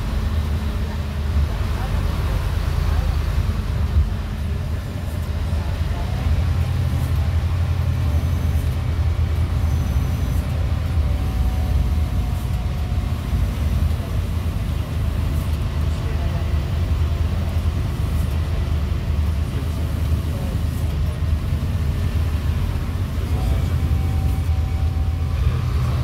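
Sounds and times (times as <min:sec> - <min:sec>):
bus diesel engine drone: 0:00.0 - 0:26.0
road noise: 0:00.0 - 0:26.0.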